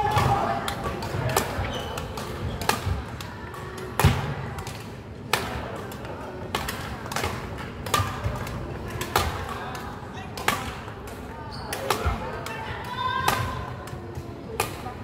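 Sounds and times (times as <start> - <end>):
rackets striking shuttlecocks: 0.0 - 14.9.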